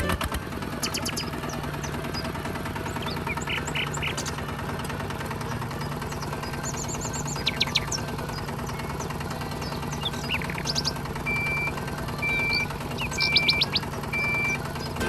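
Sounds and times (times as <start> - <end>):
small motor humming: 0.5 - 15.0
birds chirping: 0.6 - 15.0.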